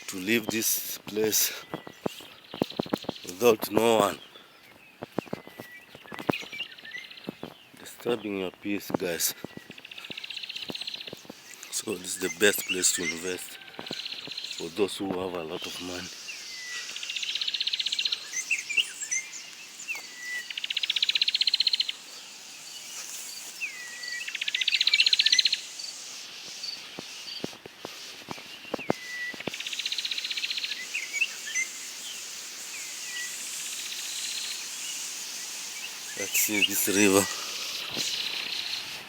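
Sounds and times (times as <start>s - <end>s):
birds trilling and chirping: 0.0s - 39.0s
steady high-pitched hiss: 0.0s - 39.0s.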